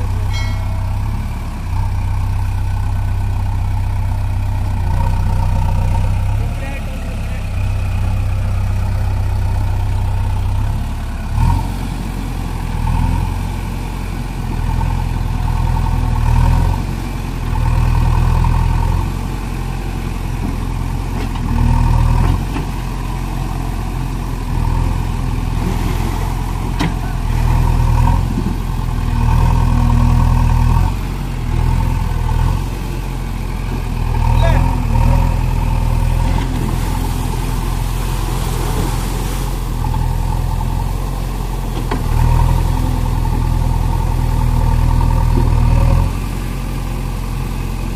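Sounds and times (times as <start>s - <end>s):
diesel engine revving: 0.0s - 47.9s.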